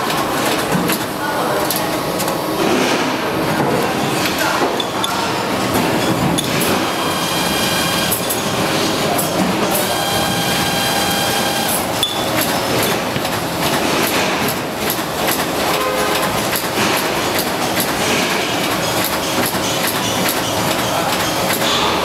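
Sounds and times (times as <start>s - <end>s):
machinery clattering: 0.0s - 22.0s.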